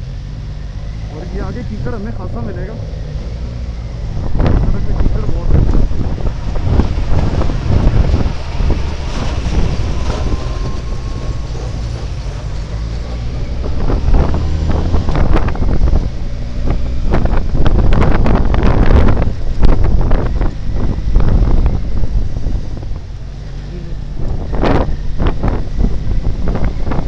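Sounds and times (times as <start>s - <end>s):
wind buffeting microphone: 0.7s - 27.0s.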